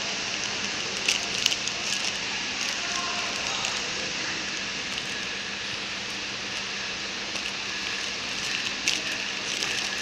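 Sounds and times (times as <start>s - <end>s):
packing machine hissing: 0.0s - 10.0s.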